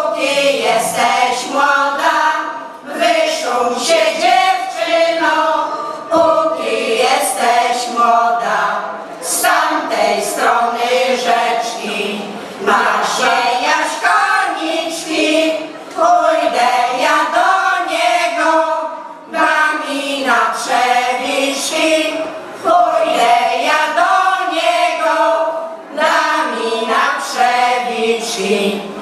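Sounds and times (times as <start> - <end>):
women's choir singing folk song: 0.0 - 29.0.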